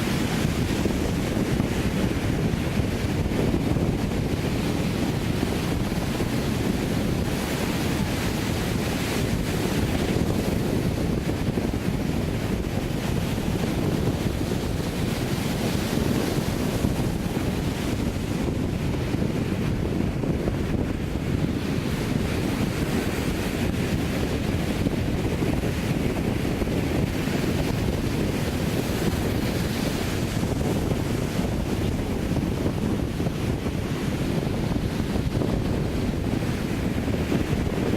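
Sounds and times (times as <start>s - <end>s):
surf breaking on beach: 0.0s - 37.9s
wind buffeting microphone: 0.0s - 37.9s.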